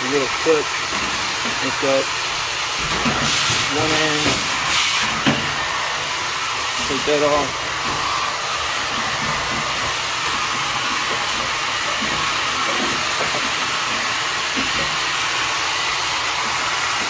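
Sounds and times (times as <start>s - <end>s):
rushing air hiss: 0.0s - 17.0s.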